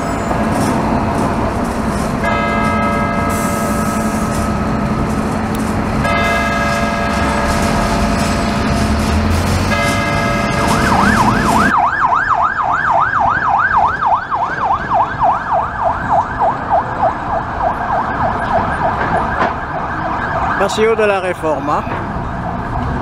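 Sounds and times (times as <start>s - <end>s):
emergency vehicle siren yelping: 3.2s - 23.0s.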